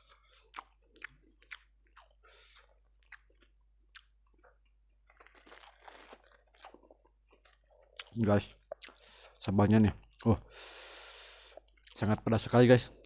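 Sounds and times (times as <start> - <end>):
person chewing crunchy food: 0.0 - 12.1.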